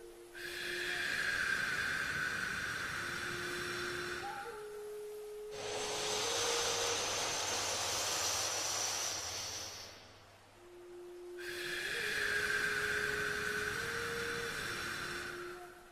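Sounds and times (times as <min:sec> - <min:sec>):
soft steady tone: 0:00.0 - 0:15.9
person breathing in through nose: 0:00.4 - 0:04.5, 0:05.5 - 0:10.2, 0:11.4 - 0:15.7.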